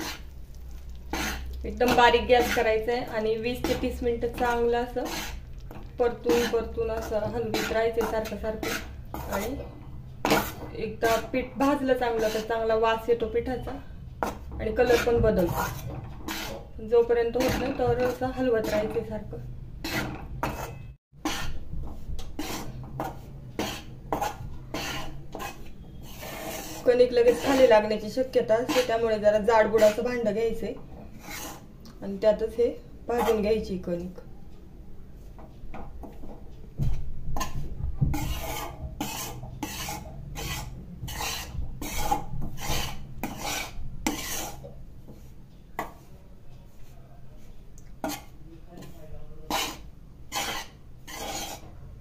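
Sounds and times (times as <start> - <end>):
spatula scraping metal pan: 0.0 - 9.7, 10.3 - 19.2, 19.8 - 21.6, 22.2 - 30.3, 31.0 - 31.7, 33.1 - 33.5, 37.4 - 46.1, 48.0 - 51.7.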